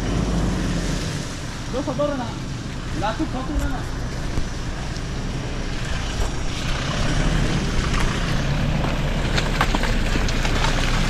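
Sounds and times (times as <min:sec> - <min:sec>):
vehicle engine under load: 0:00.0 - 0:11.0.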